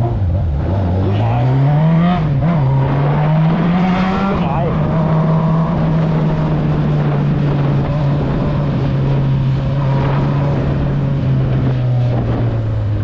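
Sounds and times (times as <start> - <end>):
motorcycle engine drone: 0.0 - 13.0
wind rushing over microphone: 0.0 - 13.0.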